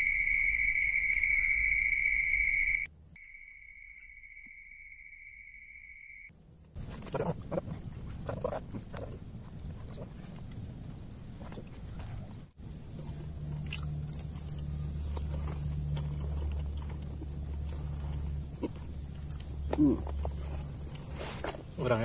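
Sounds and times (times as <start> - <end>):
low hum: 0.0 - 21.8
insects trilling: 0.0 - 22.0.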